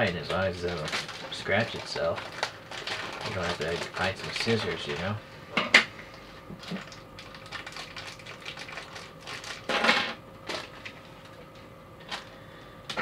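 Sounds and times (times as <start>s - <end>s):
plastic bag crinkling: 0.0s - 5.2s, 6.6s - 12.4s.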